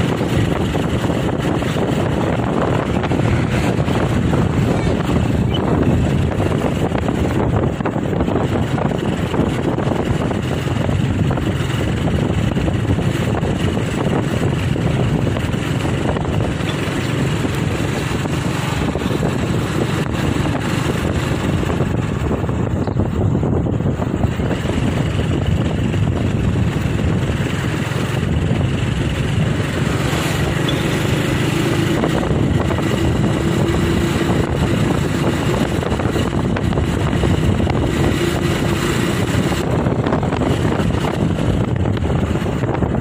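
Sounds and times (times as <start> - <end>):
vehicle engine running: 0.0 - 43.0
wind rushing on microphone: 0.0 - 43.0.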